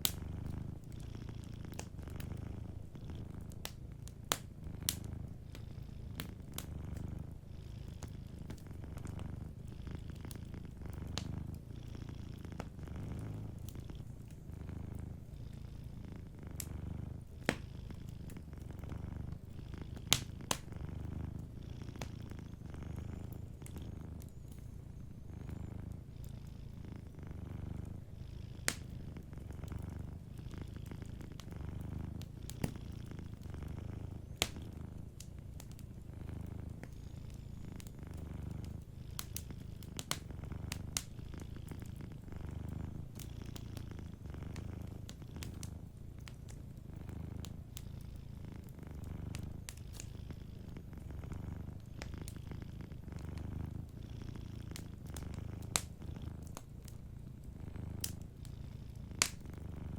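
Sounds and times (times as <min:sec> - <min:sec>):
cat purring: 0:00.0 - 0:59.9
wood fire crackling and popping: 0:00.0 - 0:59.9.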